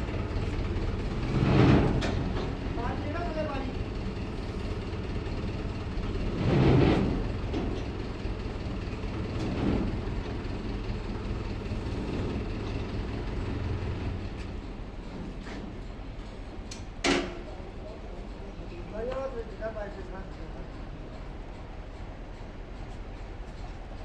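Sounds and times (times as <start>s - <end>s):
machinery rumbling: 0.0s - 23.4s.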